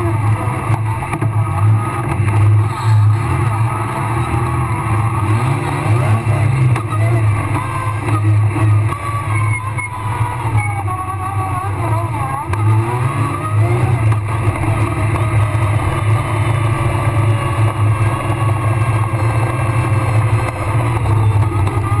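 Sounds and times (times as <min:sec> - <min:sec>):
rally car engine revving hard: 0:00.0 - 0:22.0.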